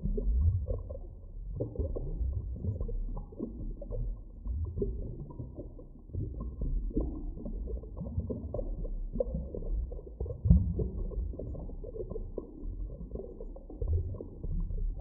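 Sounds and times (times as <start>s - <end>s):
low knocks and gurgles: 0.0s - 15.0s
low underwater rumble: 0.0s - 15.0s.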